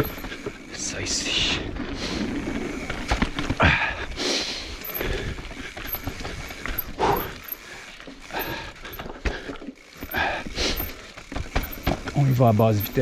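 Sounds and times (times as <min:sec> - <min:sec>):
bike knocking and rattling: 0:00.0 - 0:13.0
bike tyres crunching over rock: 0:00.0 - 0:13.0.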